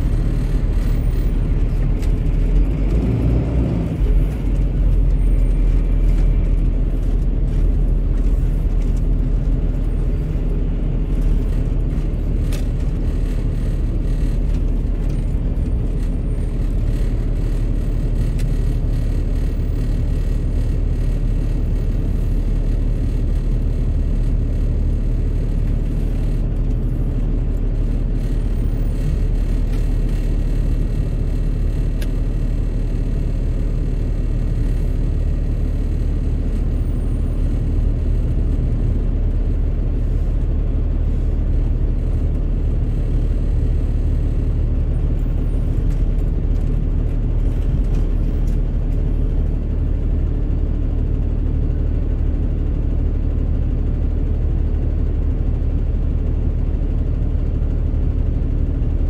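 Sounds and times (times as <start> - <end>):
buses and cars idling: 0.0 - 59.0
traffic engine rumble: 0.0 - 59.0.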